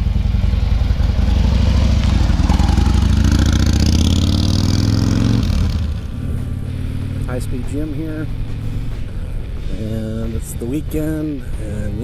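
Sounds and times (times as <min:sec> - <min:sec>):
motorcycle engine accelerating: 0:00.0 - 0:10.4.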